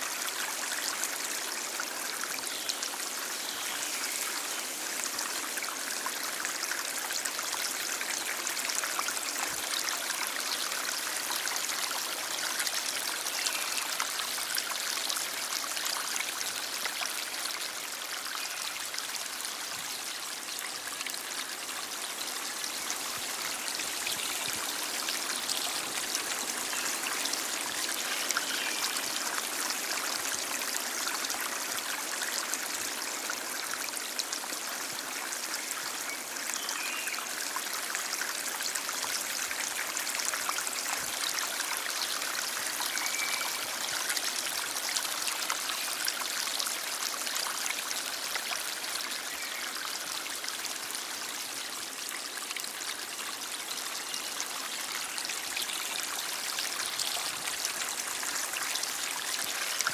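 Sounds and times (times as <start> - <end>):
stream of water flowing: 0.0 - 59.9.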